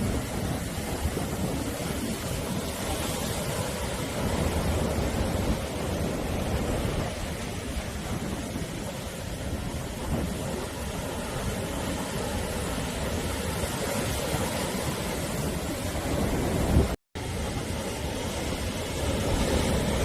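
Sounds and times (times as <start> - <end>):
waves breaking on shore: 0.0 - 20.0.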